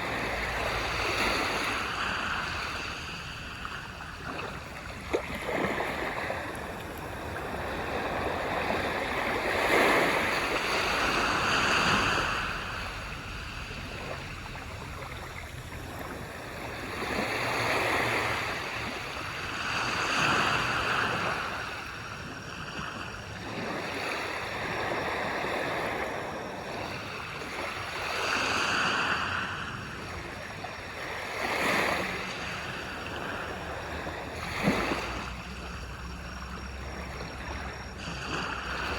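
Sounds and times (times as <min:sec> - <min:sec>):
small waves washing on shore: 0:00.0 - 0:38.9.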